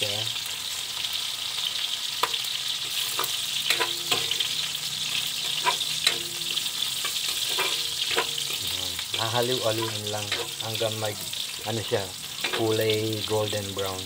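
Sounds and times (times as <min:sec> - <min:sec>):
garlic sizzling in hot oil: 0:00.0 - 0:14.0
metal spoon scraping a pan: 0:02.2 - 0:13.7.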